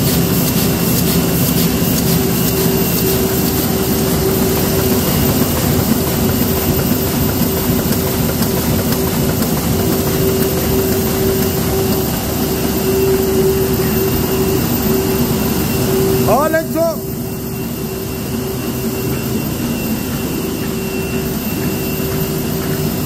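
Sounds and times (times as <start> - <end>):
constant machine hum: 0.0 - 23.0
printing press mechanical din: 0.0 - 23.0.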